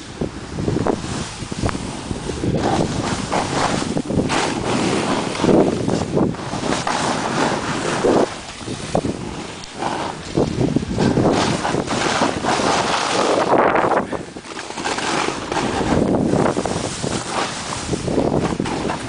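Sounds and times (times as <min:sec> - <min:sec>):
snowboard carving snow: 0:00.0 - 0:19.0
wind buffeting microphone: 0:00.0 - 0:19.0.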